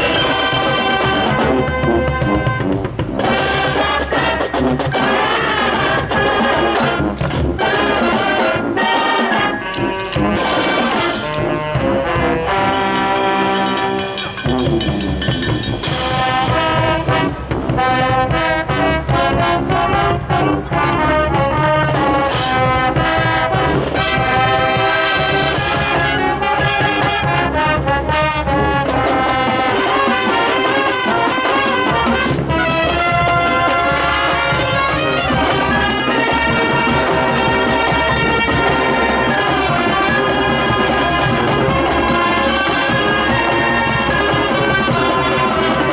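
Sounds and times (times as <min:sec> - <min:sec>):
marching band playing: 0:00.0 - 0:45.9.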